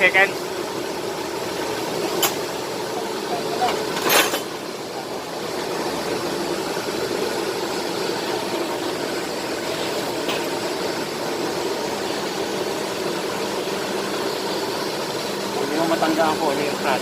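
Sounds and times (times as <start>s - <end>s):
press flywheel humming: 0.0s - 17.0s.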